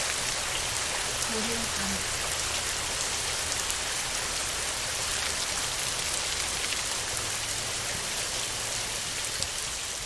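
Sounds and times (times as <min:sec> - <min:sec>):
heavy rain on a tin roof: 0:00.0 - 0:10.0.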